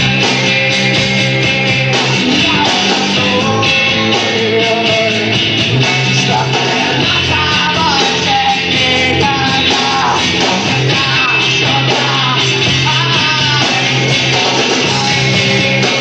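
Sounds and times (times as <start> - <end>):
bass guitar: 0.0 - 16.0
electric guitar: 0.0 - 16.0
person singing: 1.8 - 16.0.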